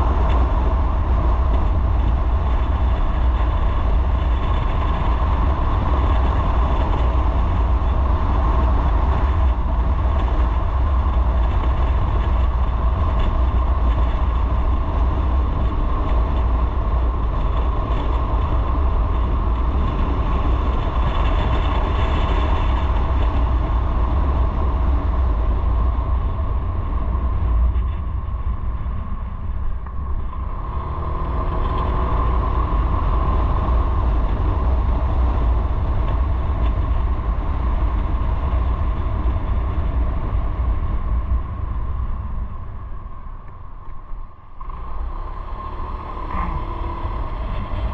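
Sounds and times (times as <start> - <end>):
motorcycle engine and road noise: 0.0 - 47.9
wind rumble on microphone: 0.0 - 47.9.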